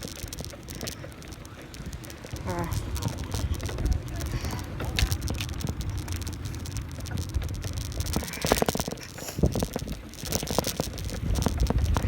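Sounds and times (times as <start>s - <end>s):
bicycle clattering over bumps: 0.0s - 12.0s
wind on microphone: 0.0s - 12.0s.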